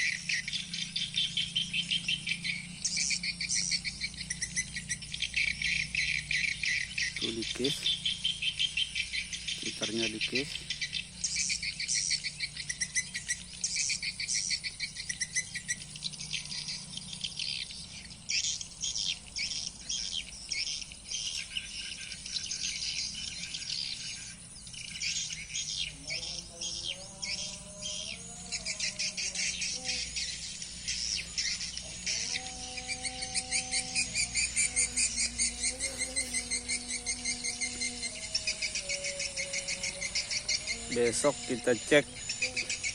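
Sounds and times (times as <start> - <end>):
faint low wavering tones: 0.0 - 42.9.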